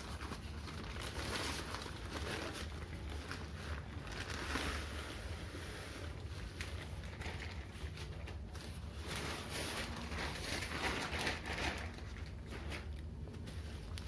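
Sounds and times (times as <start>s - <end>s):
low steady hum: 0.0s - 14.0s
packaging rustling: 0.0s - 14.0s.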